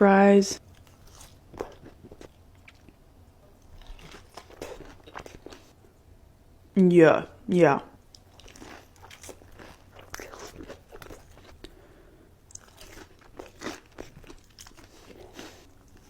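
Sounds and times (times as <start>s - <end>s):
crunching and chewing fried food: 0.6s - 5.8s, 8.0s - 16.0s.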